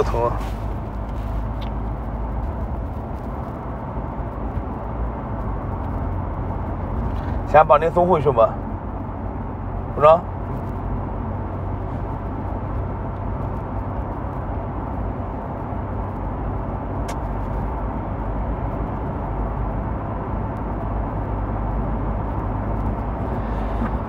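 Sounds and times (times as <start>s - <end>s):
car interior road and engine rumble: 0.0s - 24.0s.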